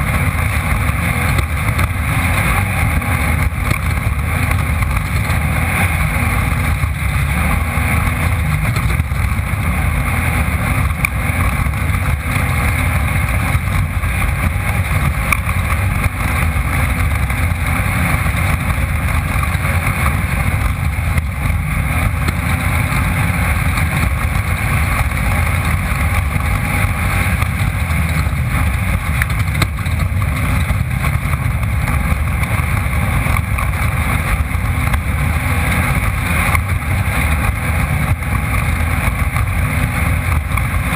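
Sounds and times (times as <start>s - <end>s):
race car engine rumble: 0.0s - 40.9s.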